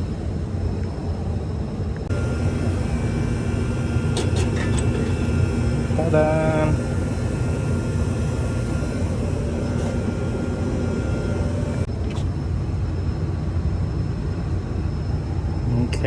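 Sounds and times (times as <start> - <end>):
low mechanical drone: 0.0 - 16.0.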